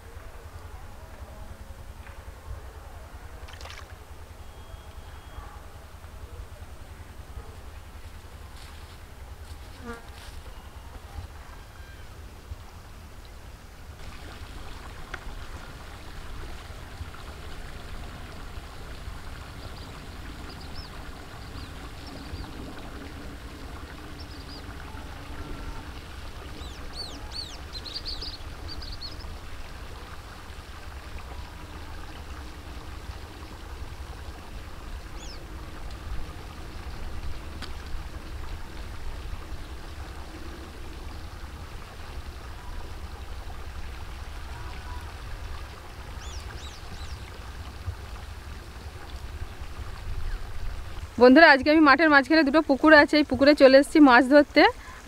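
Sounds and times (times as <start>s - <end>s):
low rumble with hiss: 0.0s - 55.0s.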